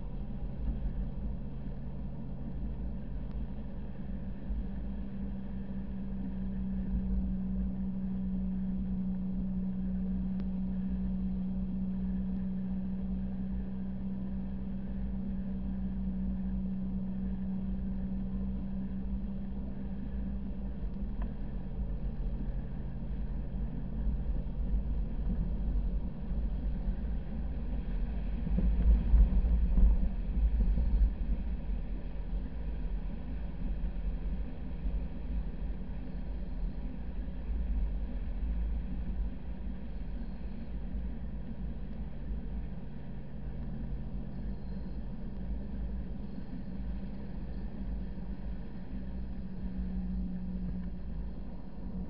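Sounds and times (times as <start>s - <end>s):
low rumble of tires on sand: 0.0s - 52.0s
vehicle engine hum: 0.0s - 52.0s.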